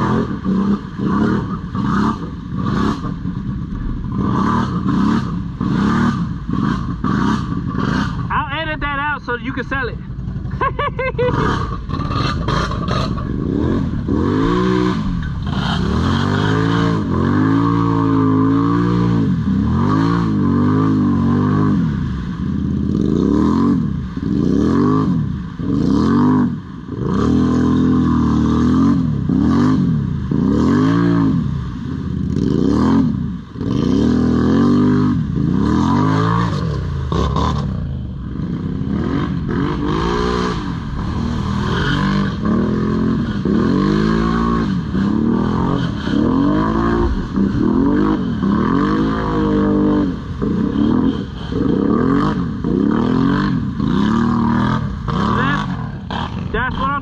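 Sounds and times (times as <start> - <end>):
engine revving: 0.0 - 57.0.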